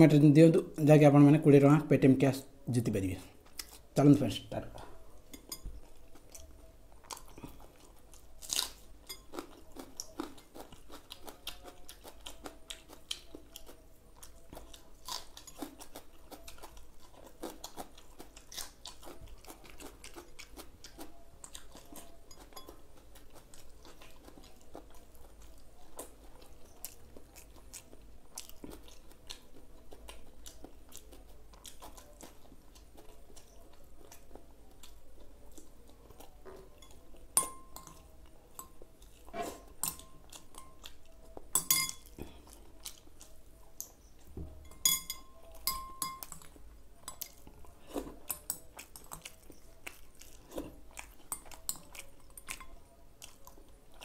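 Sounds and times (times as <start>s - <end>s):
chewing with wet mouth clicks: 3.4s - 3.9s, 5.2s - 44.3s, 45.0s - 54.0s.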